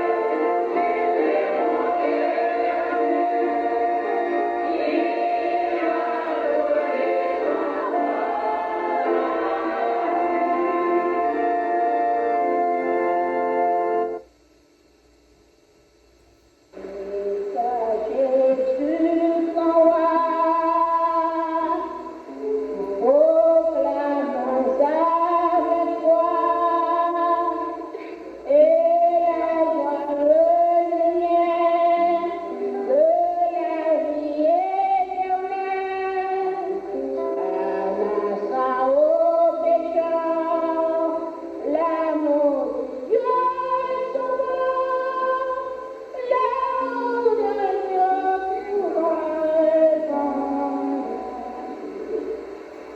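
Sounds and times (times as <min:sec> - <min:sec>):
woman singing slow song: 0:00.0 - 0:13.2, 0:16.7 - 0:52.9.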